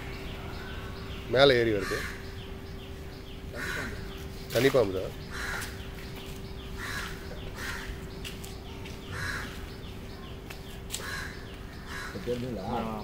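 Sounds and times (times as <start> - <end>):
low hum: 0.0 - 11.9
bird chirping: 0.0 - 13.0
crows cawing: 0.5 - 2.6, 3.4 - 9.8, 10.9 - 13.0.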